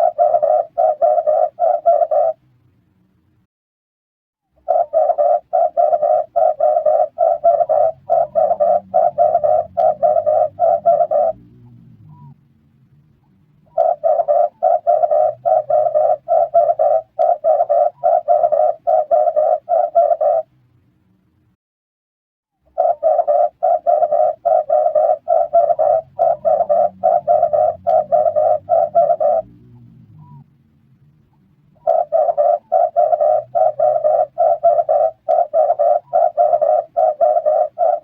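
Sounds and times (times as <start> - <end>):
dove cooing: 0.0 - 2.4, 4.6 - 12.4, 13.7 - 20.5, 22.7 - 30.4, 31.8 - 38.0.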